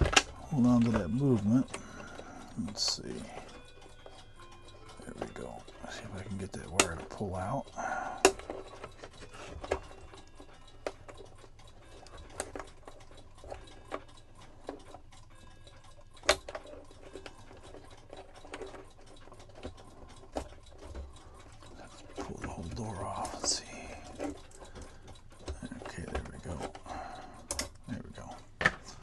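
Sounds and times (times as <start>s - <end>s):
small clicks and taps of clockwork: 0.0s - 29.0s.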